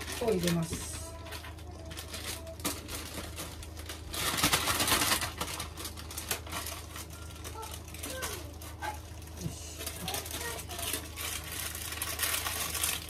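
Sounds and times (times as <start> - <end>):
low steady hum: 0.0 - 13.0
rustling rattling noise: 0.0 - 13.0.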